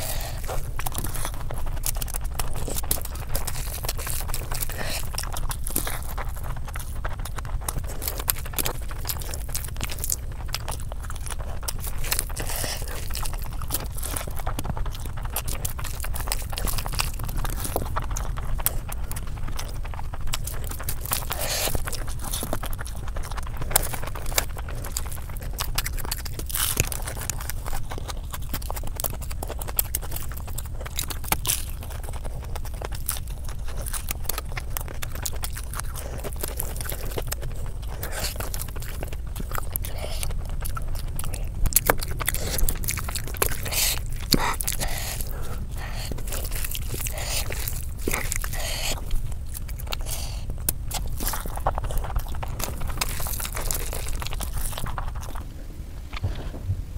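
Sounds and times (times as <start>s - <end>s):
hand squishing rice: 0.0s - 56.6s
wet chewing and mouth smacks: 0.0s - 56.6s
steady low hum: 0.0s - 56.9s.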